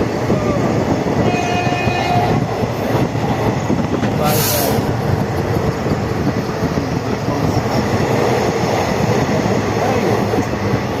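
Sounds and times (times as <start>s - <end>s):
train rumbling on tracks: 0.0s - 11.0s.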